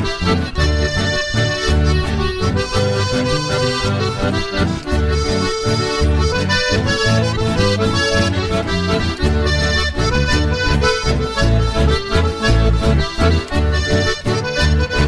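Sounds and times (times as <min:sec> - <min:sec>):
accordion music with bass line: 0:00.0 - 0:15.0.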